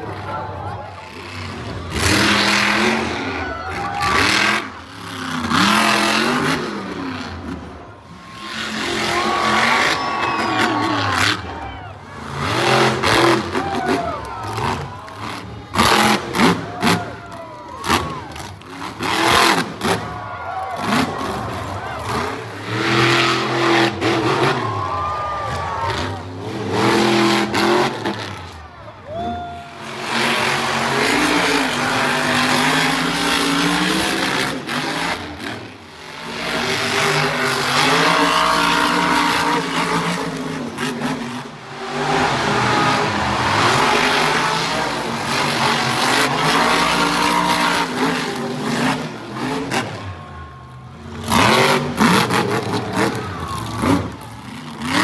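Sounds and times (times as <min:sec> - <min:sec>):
monster truck engines revving: 0:00.0 - 0:55.0.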